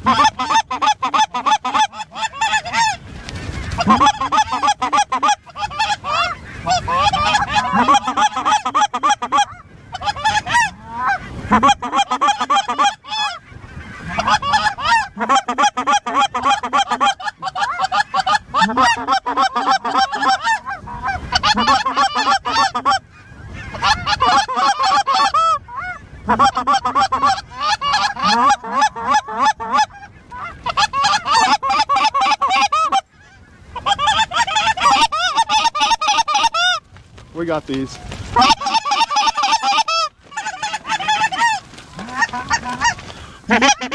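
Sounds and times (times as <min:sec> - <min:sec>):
geese honking and clucking: 0:00.0 - 0:43.9.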